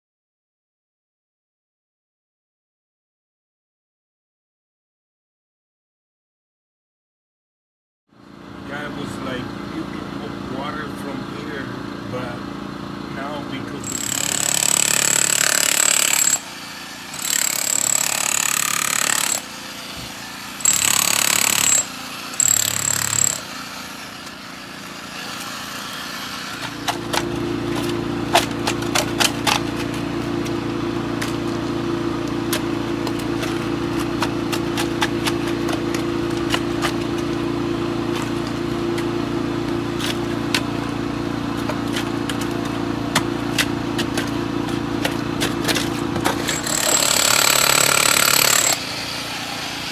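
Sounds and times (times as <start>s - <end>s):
jackhammer hammering: 8.7s - 49.9s.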